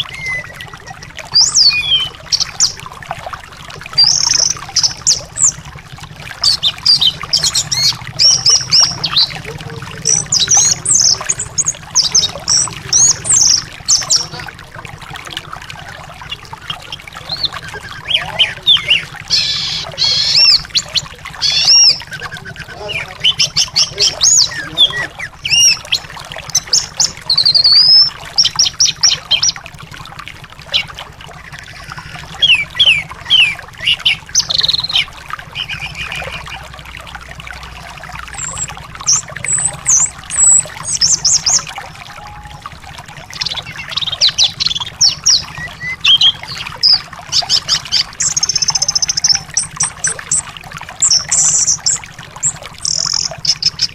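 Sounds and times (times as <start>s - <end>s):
thrush singing whistled trills: 0.0s - 2.9s, 3.8s - 14.6s, 15.2s - 29.6s, 30.6s - 53.9s
trickling water: 0.0s - 53.9s.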